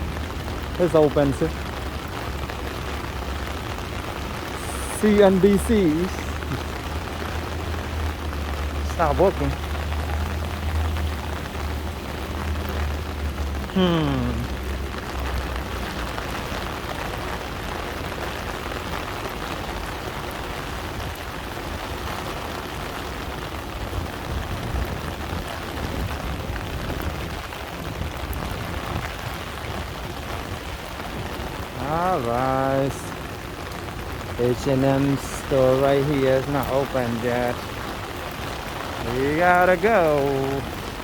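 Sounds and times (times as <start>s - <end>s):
heavy rain on pavement: 0.0s - 41.0s.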